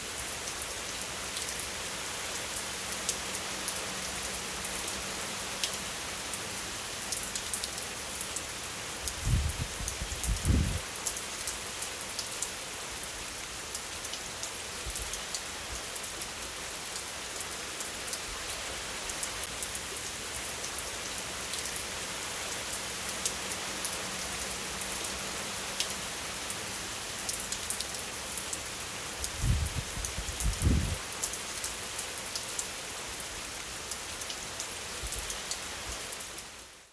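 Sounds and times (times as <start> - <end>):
steady rain falling: 0.0 - 36.9
raindrops ticking close by: 0.2 - 36.8.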